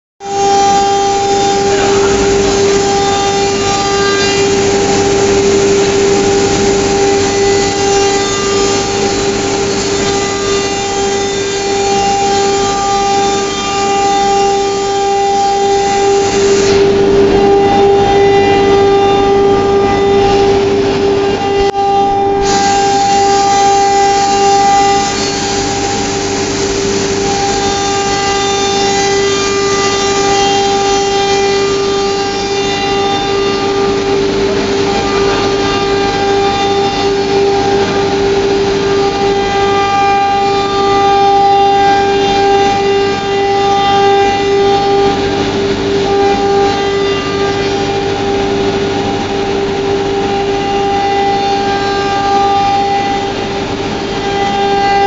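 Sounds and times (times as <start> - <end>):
router spindle whine: 0.2 - 55.0.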